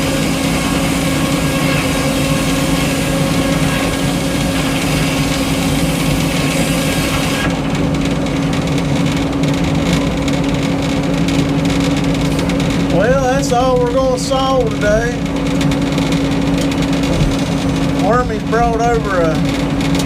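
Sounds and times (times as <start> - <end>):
sawmill engine running: 0.0 - 20.0.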